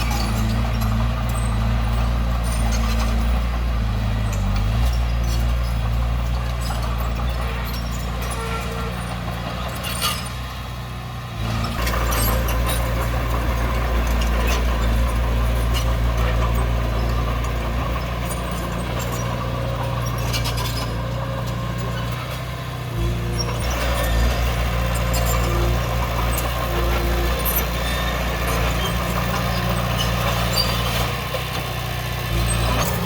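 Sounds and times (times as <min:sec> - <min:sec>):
diesel machinery engine drone: 0:00.0 - 0:33.0.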